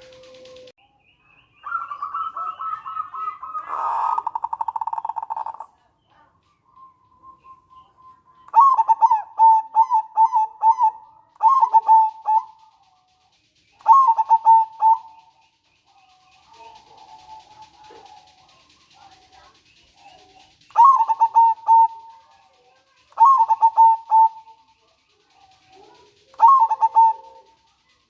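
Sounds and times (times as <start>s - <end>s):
dove cooing: 0.0s - 0.7s, 1.6s - 6.3s, 7.3s - 28.0s
dove singing trill: 0.0s - 28.0s.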